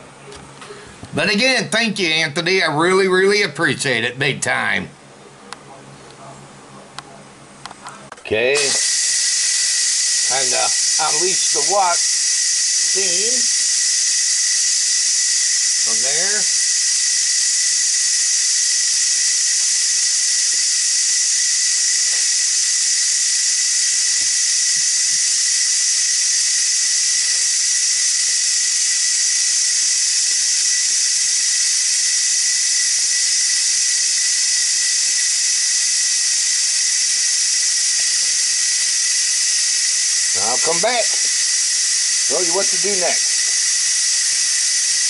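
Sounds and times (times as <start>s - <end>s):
steam hissing with whistle: 8.4s - 45.0s.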